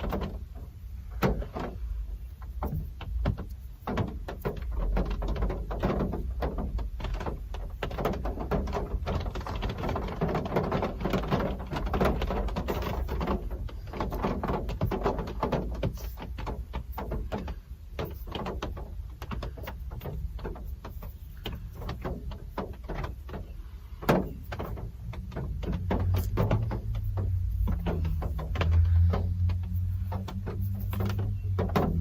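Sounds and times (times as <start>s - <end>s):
rain dripping and tapping: 0.0s - 32.0s.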